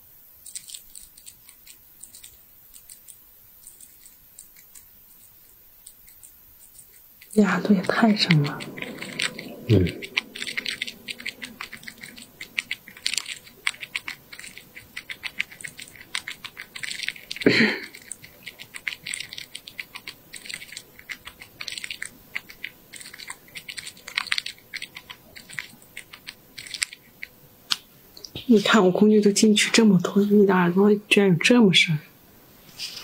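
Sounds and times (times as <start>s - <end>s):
tools scraping inside ear canal: 0.4s - 27.4s.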